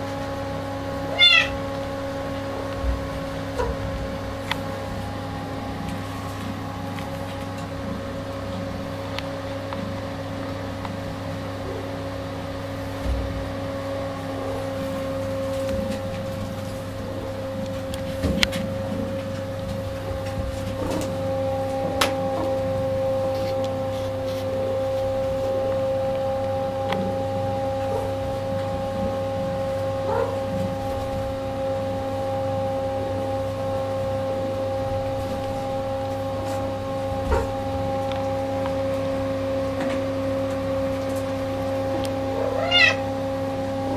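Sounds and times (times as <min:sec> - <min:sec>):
machine hum: 0:00.0 - 0:43.9.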